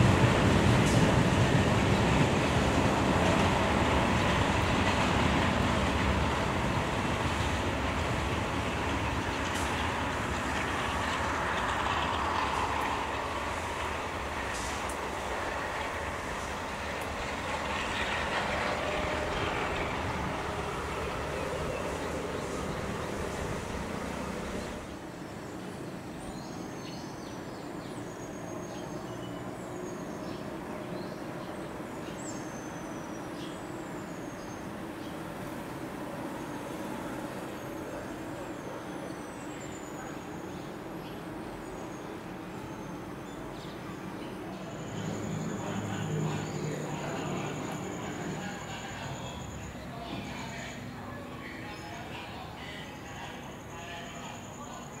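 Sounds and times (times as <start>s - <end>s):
diesel locomotive rumble: 0.0s - 26.8s, 27.7s - 55.0s
birds chirping: 0.0s - 55.0s
outdoor background noise: 0.0s - 55.0s
rail noise: 0.0s - 55.0s.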